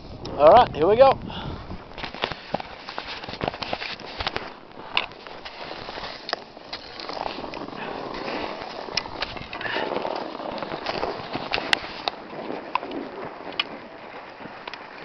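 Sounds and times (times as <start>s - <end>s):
skis sliding over snow: 0.0s - 15.0s.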